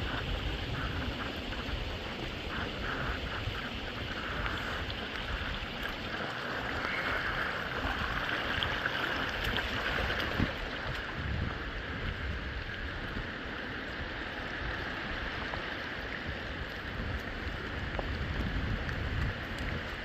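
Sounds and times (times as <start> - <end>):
rushing hiss of water: 0.0 - 20.0
wind rumble on microphone: 0.0 - 20.0.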